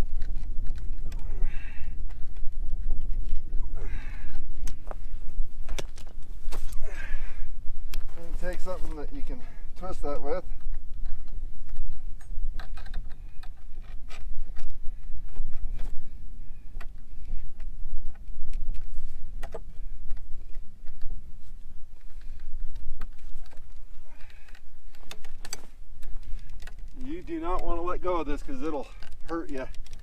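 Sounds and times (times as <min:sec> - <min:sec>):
wire clicks and scrapes: 0:00.0 - 0:07.0, 0:07.8 - 0:30.0
wind buffeting microphone: 0:00.0 - 0:30.0.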